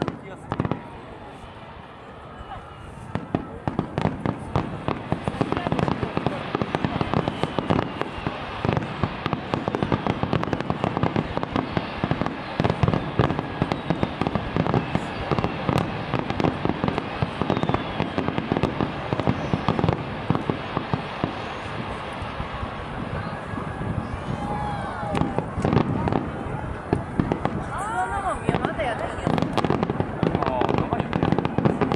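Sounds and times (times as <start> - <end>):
firework crackling: 0.0 - 31.9
rapid firework bangs: 3.1 - 24.1, 25.1 - 27.7, 28.3 - 31.9.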